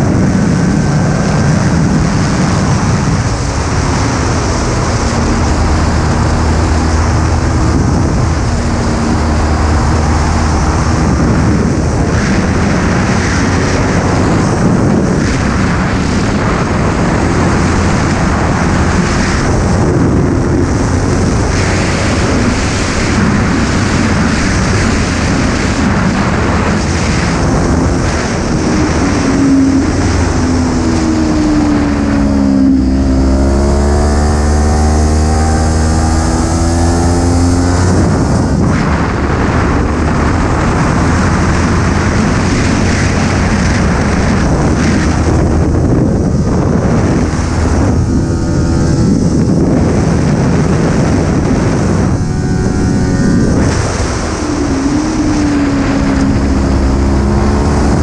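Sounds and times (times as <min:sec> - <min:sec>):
motorcycle engine accelerating: 0:00.0 - 0:58.0
wind rush over microphone: 0:00.0 - 0:58.0.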